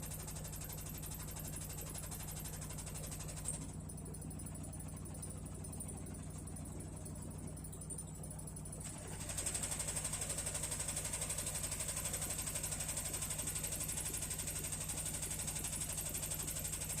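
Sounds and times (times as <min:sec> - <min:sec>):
washing machine spin whine: 0:00.0 - 0:17.0.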